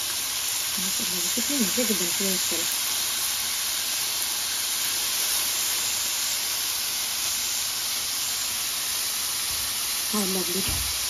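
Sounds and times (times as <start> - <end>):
skewers sizzling in hot oil: 0.0 - 11.0.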